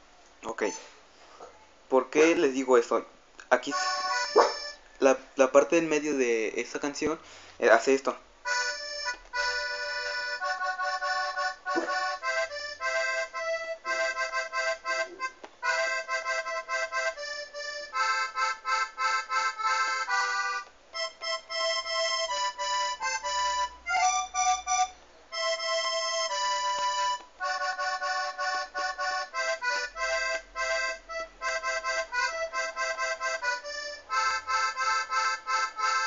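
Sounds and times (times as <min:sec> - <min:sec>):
accordion melody from tablet speaker: 0:03.6 - 0:06.0, 0:06.7 - 0:36.0.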